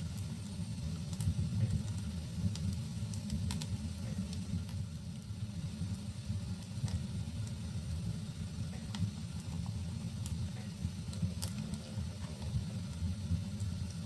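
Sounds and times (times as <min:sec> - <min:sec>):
fire flames rumbling: 0:00.0 - 0:14.0
wood fire crackling and popping: 0:00.0 - 0:14.0.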